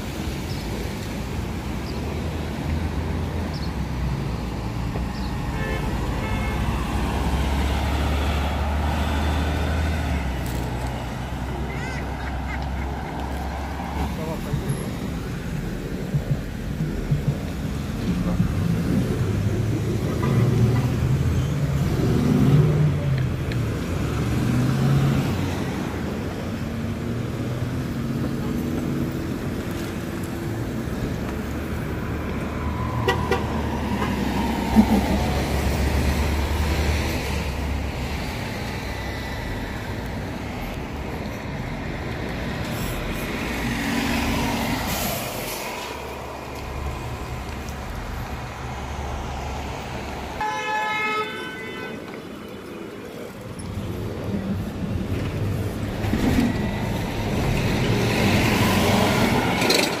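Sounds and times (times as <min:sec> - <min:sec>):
buses and traffic passing: 0:00.0 - 1:00.0.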